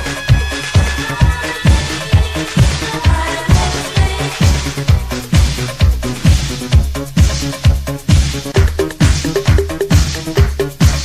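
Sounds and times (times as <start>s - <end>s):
disco dance music: 0.0s - 11.0s.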